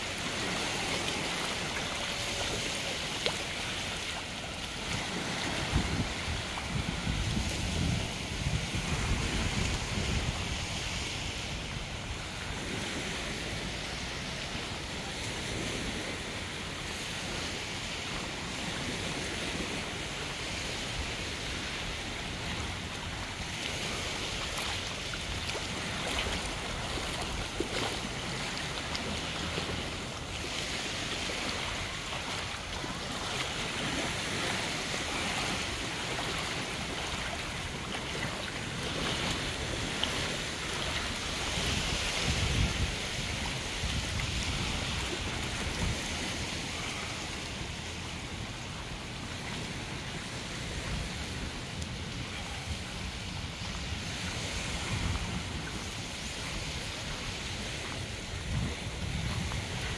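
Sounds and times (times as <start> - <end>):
small waves washing onto sand: 0.0 - 59.9
wind rumbling on microphone: 0.0 - 59.9.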